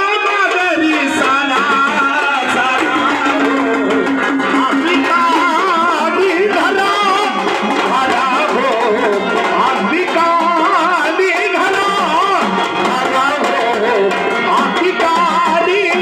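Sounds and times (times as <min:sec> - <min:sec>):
hand drum beat: 0:00.0 - 0:16.0.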